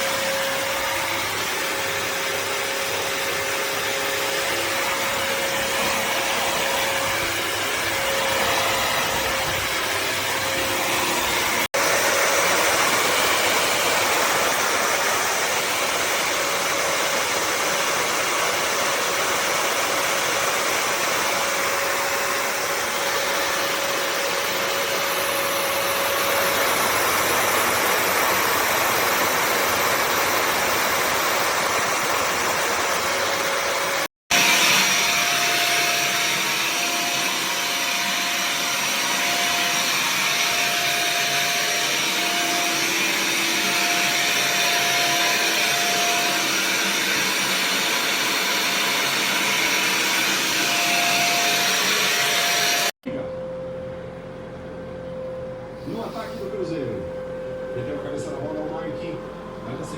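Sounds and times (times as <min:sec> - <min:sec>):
vacuum mop running: 0:00.0 - 0:54.0.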